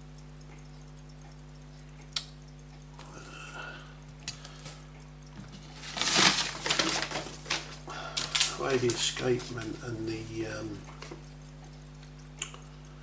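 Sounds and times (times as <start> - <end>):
steady electrical hum: 0.0 - 13.0
small tools clicking: 2.0 - 13.0.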